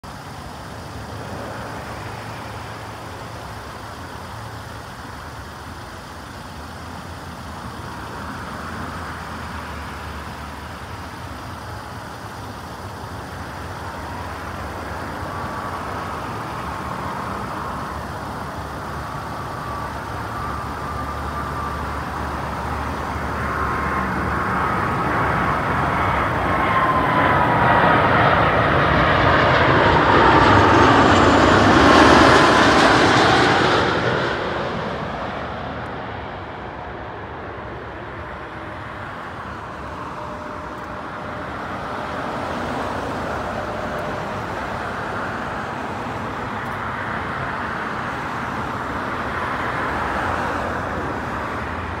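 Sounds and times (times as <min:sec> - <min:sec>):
jet airliner whine overhead: 0:00.0 - 0:52.0
low aircraft rumble: 0:00.0 - 0:52.0.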